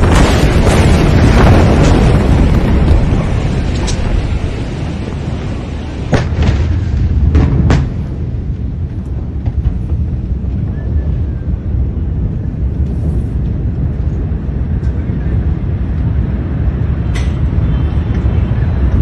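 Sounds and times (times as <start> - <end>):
low rumble: 0.0 - 19.0
wind noise on microphone: 0.0 - 19.0.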